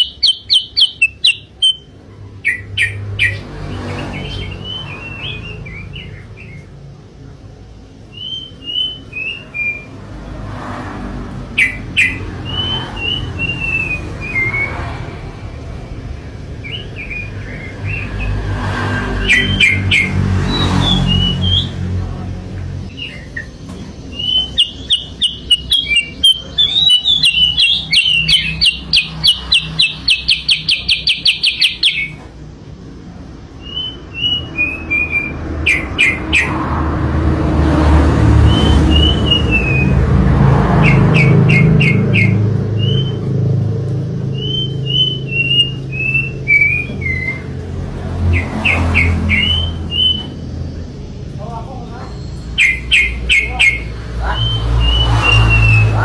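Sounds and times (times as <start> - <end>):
bird chirping and whistling: 0.0 - 6.7, 8.0 - 10.0, 11.5 - 15.4, 16.2 - 21.9, 22.8 - 32.2, 33.6 - 36.6, 38.4 - 40.0, 40.8 - 43.4, 44.2 - 50.9, 51.9 - 56.0.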